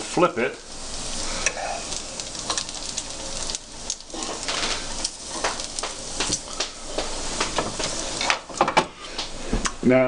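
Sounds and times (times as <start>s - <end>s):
bacon sizzling: 0.0s - 9.9s
sharp crackling pops: 0.6s - 9.4s.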